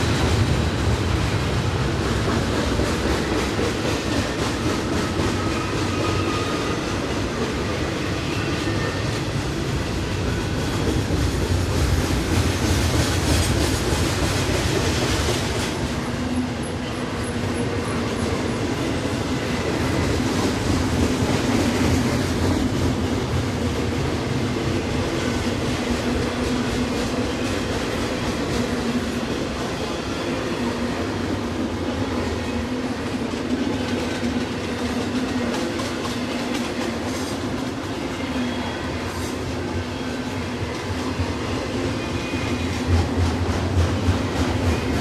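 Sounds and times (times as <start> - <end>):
steel wheels rumbling on rails: 0.0 - 45.0.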